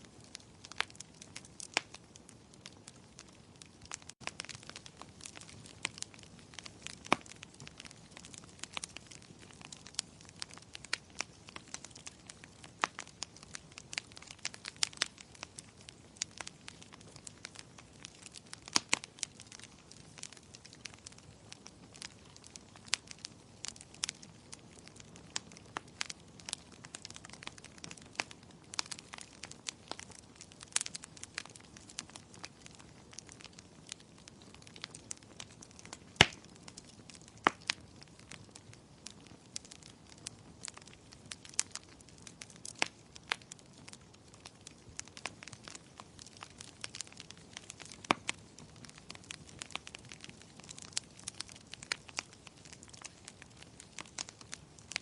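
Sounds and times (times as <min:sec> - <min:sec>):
faint steady hiss: 0:00.0 - 0:55.0
wood fire crackling and popping: 0:00.0 - 0:55.0.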